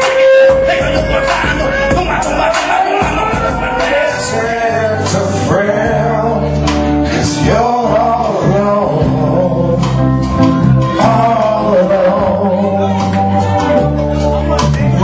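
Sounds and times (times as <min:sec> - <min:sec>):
bass line: 0:00.0 - 0:15.0
guitar: 0:00.0 - 0:15.0
man singing: 0:00.0 - 0:15.0.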